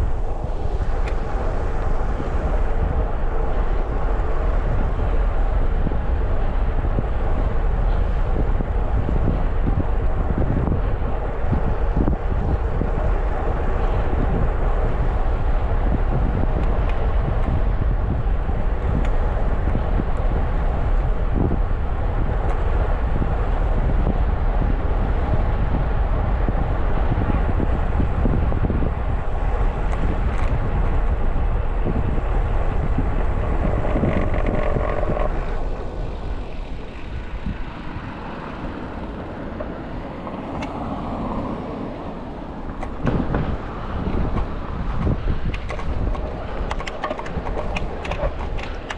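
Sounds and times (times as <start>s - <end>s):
vehicle noise: 0.0s - 48.9s
wind rushing over microphone: 0.0s - 48.9s.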